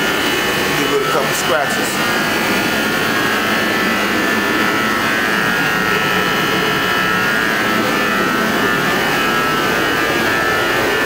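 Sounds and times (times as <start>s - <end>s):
machine drone with high whine: 0.0s - 11.0s.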